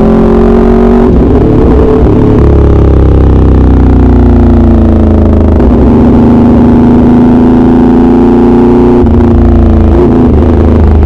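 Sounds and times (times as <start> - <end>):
motorcycle engine riding: 0.0 - 11.0.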